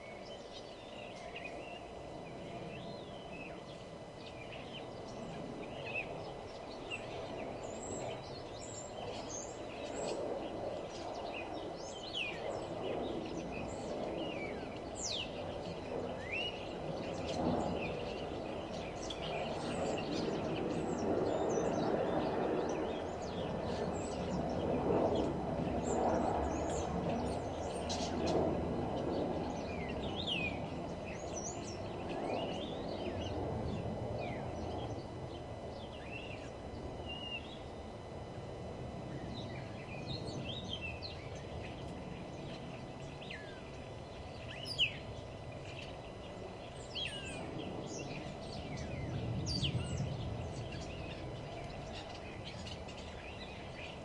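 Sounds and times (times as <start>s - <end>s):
birds singing and chirping: 0.0s - 38.2s, 39.1s - 54.0s.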